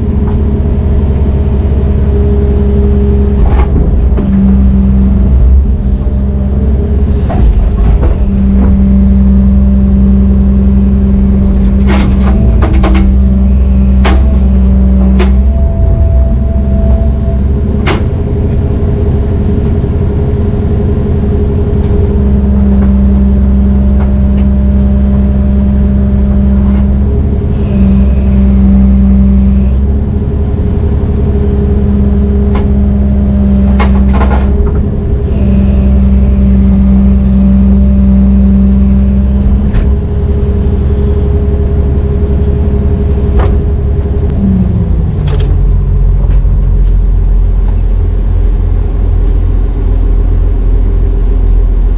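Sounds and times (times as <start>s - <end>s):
excavator diesel engine working: 0.0s - 51.9s.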